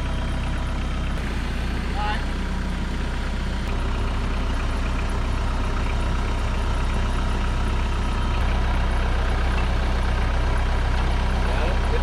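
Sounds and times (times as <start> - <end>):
large engine humming steadily: 0.0 - 12.0.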